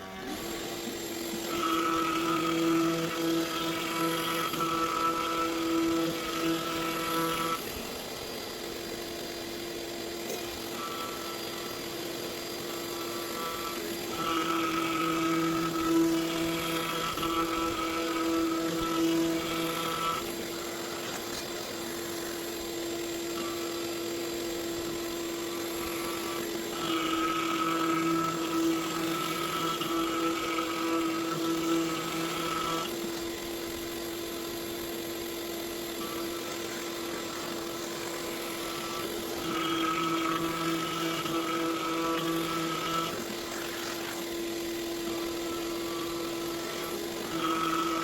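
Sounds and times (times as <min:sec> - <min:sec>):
router bit cutting wood: 0:00.0 - 0:48.0
router spindle whining: 0:00.0 - 0:48.0.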